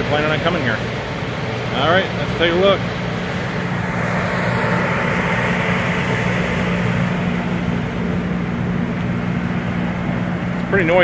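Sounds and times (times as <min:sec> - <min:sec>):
mechanical drone with low hum: 0:00.0 - 0:11.0.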